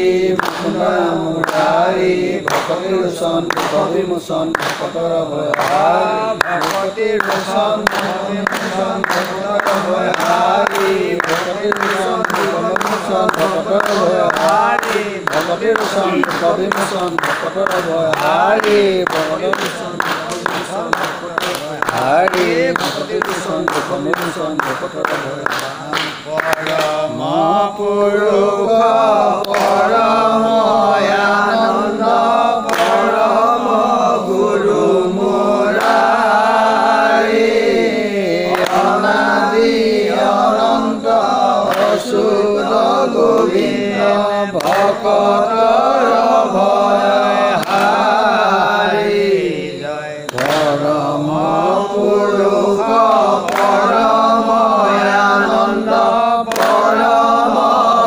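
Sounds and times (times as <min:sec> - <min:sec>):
group chanting: 0:00.0 - 0:58.0.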